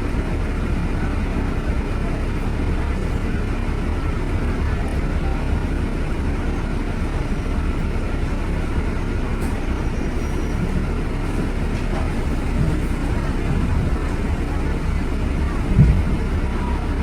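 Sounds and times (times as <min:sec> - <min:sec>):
low rumble of motor traffic: 0:00.0 - 0:17.0.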